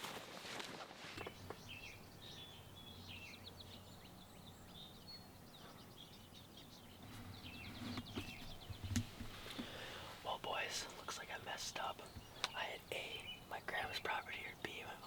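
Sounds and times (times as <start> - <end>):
small songbirds chirping: 1.2 - 15.0.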